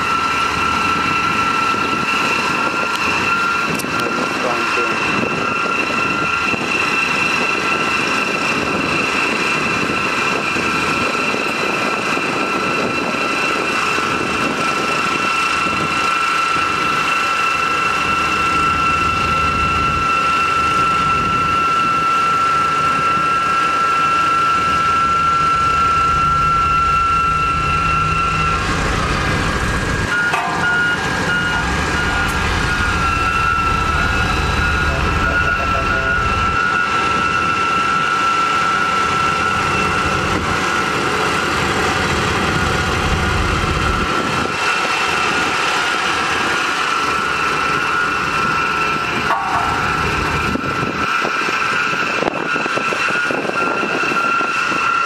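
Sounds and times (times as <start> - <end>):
construction machinery engine: 0.0 - 55.0
high whine: 0.0 - 55.0.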